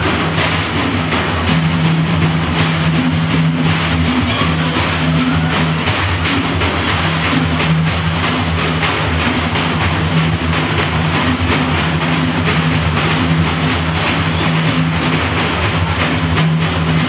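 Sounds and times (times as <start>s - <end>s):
frame drums beaten by hand: 0.0s - 17.0s.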